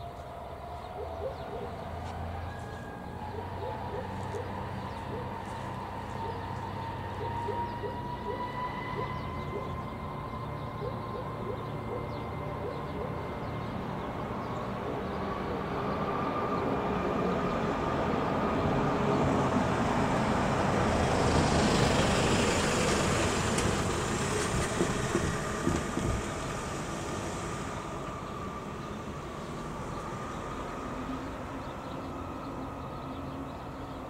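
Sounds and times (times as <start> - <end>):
van engine and tyre noise: 0.0 - 34.0.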